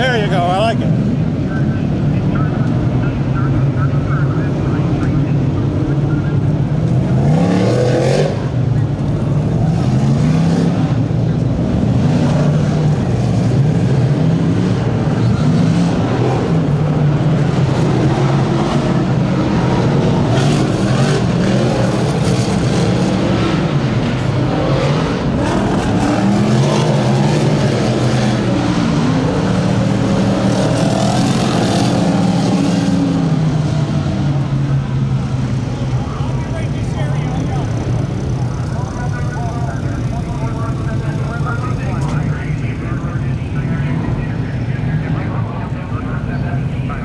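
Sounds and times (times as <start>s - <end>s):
race car engines passing: 0.0s - 47.0s.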